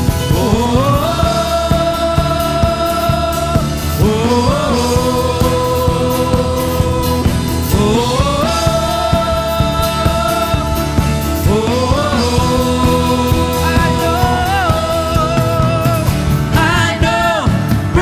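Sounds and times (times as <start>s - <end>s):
worship band music: 0.0s - 18.0s.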